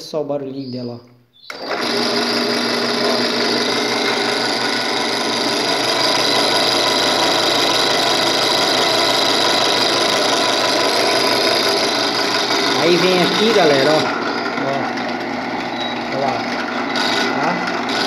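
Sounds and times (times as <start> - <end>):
drill press motor humming: 1.4 - 18.0.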